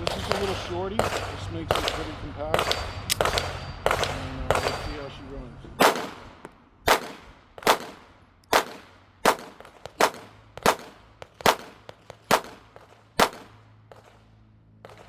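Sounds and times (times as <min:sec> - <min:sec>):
pistol shots with short echo: 0:00.0 - 0:05.1, 0:05.8 - 0:14.2.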